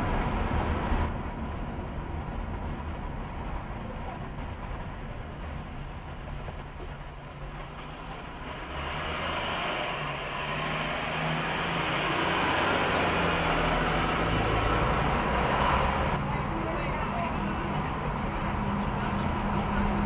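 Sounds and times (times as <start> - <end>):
truck engine and tyre noise: 0.0 - 20.0.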